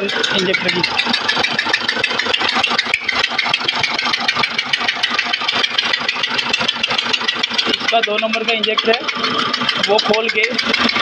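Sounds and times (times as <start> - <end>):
diesel engine idling: 0.0 - 11.0
rapid injector ticking: 0.0 - 11.0.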